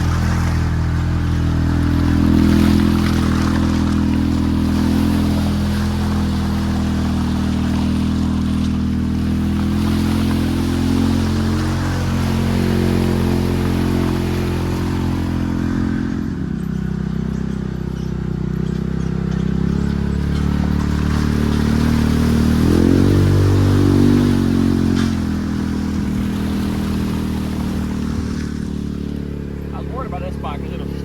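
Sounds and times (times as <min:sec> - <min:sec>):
utility vehicle engine revving: 0:00.0 - 0:31.0
vehicle rattling: 0:00.0 - 0:31.0.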